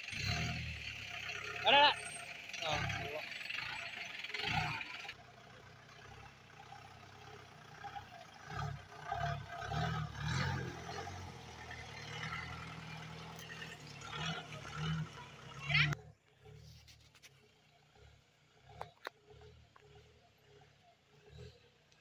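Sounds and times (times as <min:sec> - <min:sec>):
jeep engine under load: 0:00.0 - 0:22.0.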